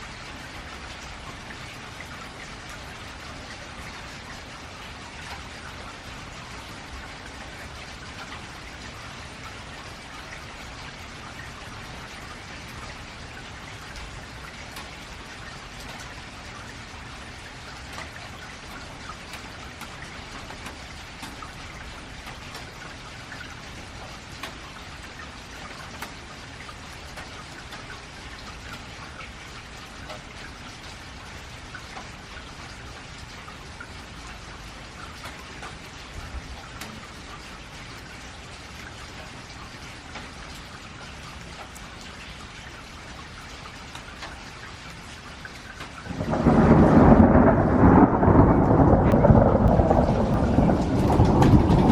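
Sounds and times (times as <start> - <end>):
rain on a metal roof: 0.0 - 51.9.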